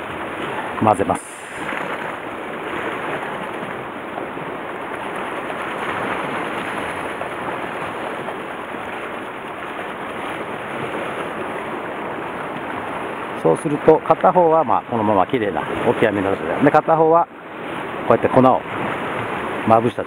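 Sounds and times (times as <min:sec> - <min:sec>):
sea waves rushing: 0:00.0 - 0:20.0
wind: 0:00.0 - 0:20.0.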